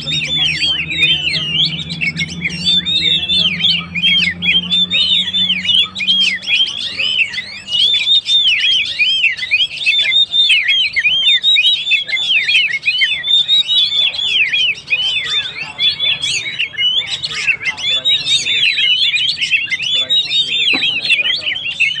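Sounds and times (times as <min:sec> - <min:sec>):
bird singing high chirps: 0:00.0 - 0:22.0.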